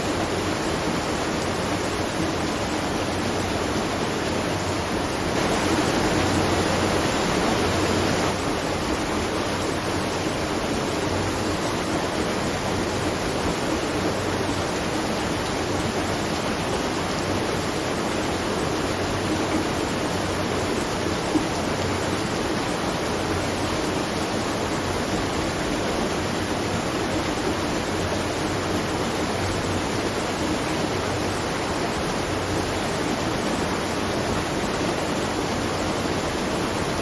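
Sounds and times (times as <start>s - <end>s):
water rushing at a watermill: 0.0s - 37.0s.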